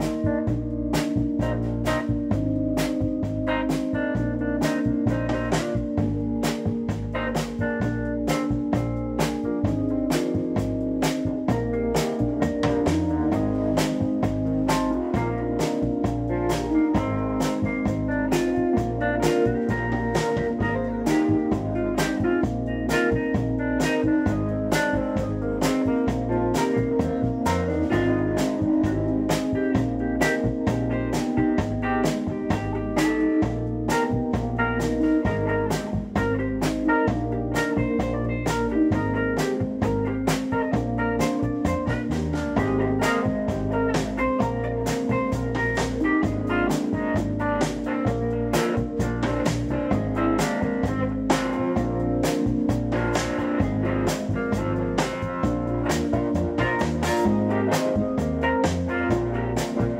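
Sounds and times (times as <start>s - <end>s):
drum beat: 0.0s - 59.9s
electric guitar strumming chords: 0.0s - 59.9s.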